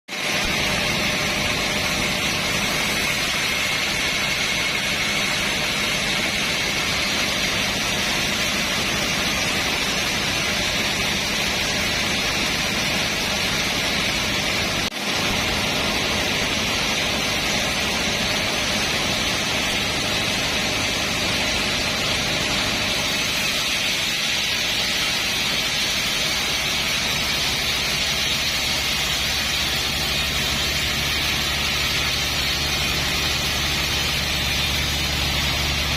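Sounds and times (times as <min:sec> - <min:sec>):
sawmill machinery running: 0:00.1 - 0:35.9.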